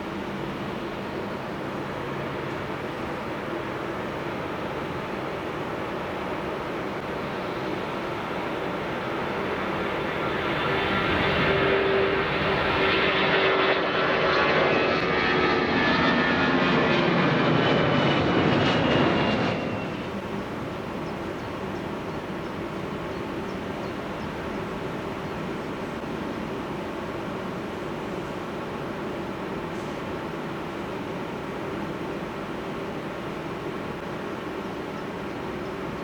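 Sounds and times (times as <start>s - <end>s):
jet engines roaring at take-off: 0.0s - 36.0s.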